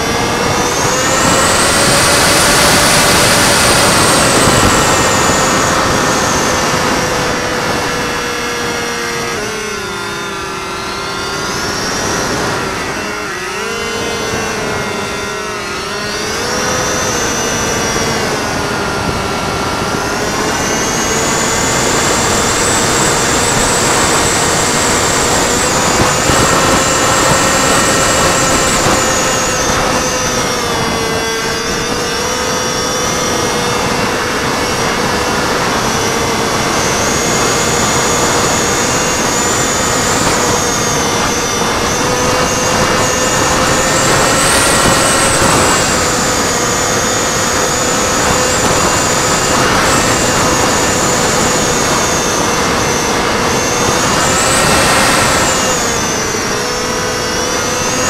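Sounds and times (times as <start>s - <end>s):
electric motor propeller whine: 0.0s - 58.0s.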